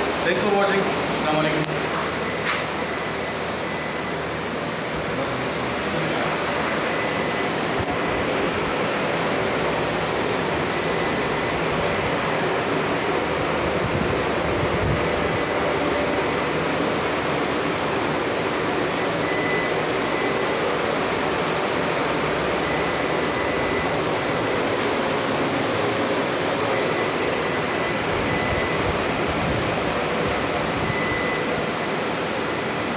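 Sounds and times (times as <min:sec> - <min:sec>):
cooling fans rushing: 0:00.0 - 0:32.9.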